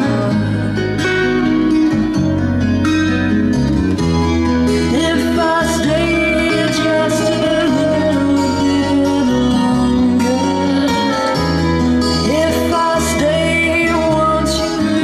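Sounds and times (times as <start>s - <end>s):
music through loudspeakers: 0.0s - 15.0s.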